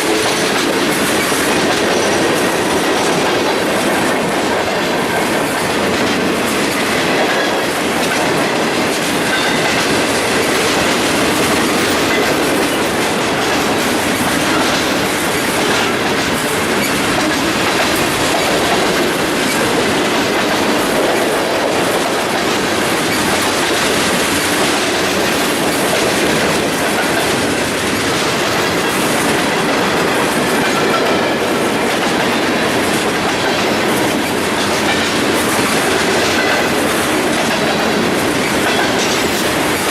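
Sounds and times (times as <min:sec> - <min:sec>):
freight train wheels rattling: 0:00.0 - 0:39.9
wheels clickety-clack: 0:00.0 - 0:39.9.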